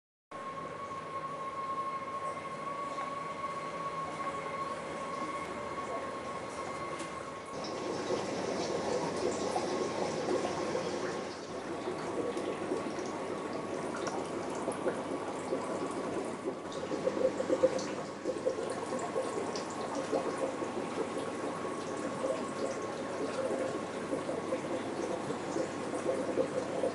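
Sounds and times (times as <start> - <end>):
faint steady whine: 0.3 - 26.9
aquarium water bubbling and trickling: 1.6 - 26.9.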